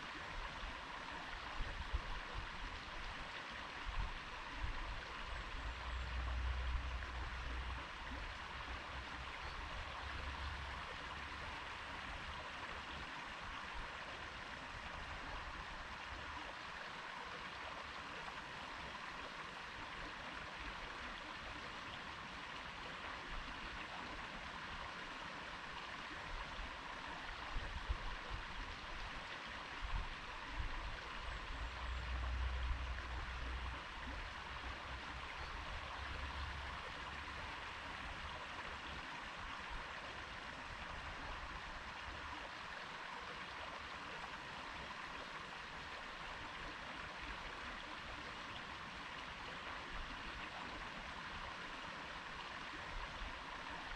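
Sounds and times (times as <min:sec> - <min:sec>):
stream babbling: 0:00.0 - 0:53.9.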